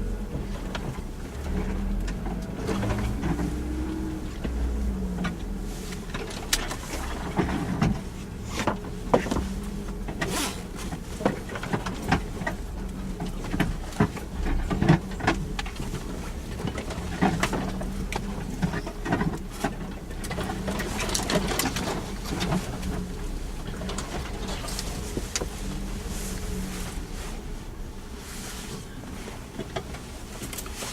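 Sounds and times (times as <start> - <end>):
vehicle knocks and clatters: 0.0 - 27.7, 28.7 - 30.9
vehicle engine running: 0.0 - 30.9.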